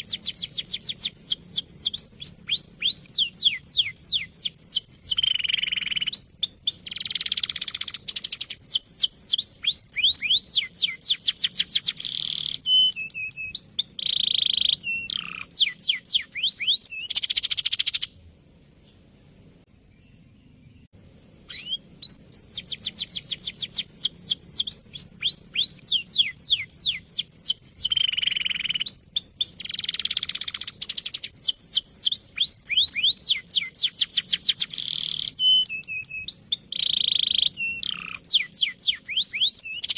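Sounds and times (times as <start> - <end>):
canary singing trills: 0.0 - 19.1, 19.7 - 39.9.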